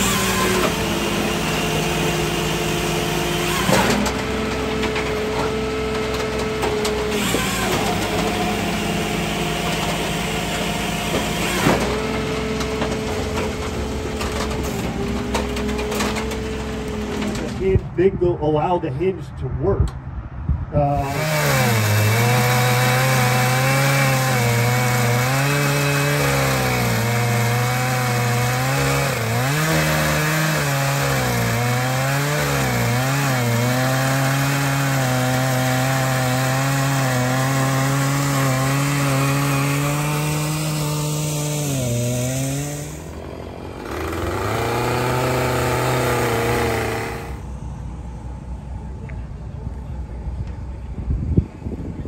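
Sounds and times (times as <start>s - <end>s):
chainsaw ripping a log: 0.0s - 17.7s, 20.9s - 47.5s.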